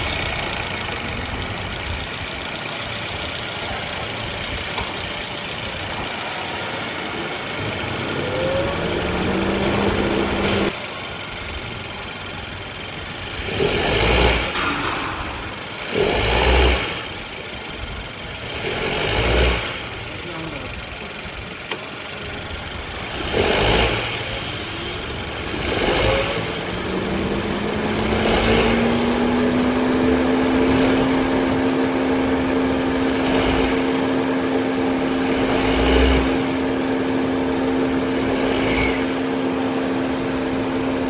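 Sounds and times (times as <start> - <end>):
car engine running: 0.0 - 41.0
engine whine: 0.0 - 41.0.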